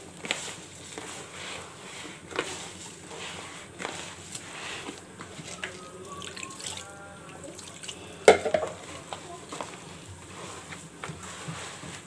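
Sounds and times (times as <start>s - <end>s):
hands rubbing semolina in a bowl: 0.0s - 6.8s, 8.8s - 12.0s.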